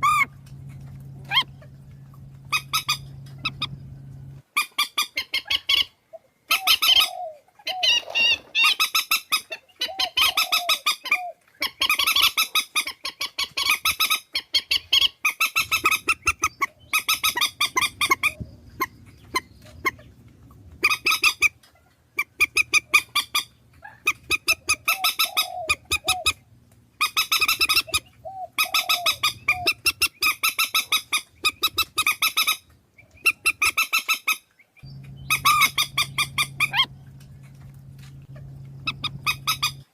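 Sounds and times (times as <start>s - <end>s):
swamphens honking cackles: 0.0s - 13.8s, 14.6s - 32.6s, 33.2s - 39.9s.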